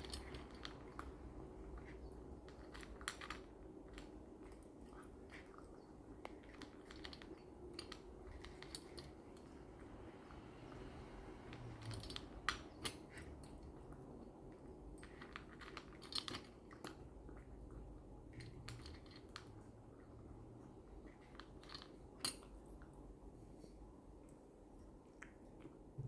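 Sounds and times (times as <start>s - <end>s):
pet crunching dry kibble: 0.0s - 9.9s, 11.5s - 23.7s.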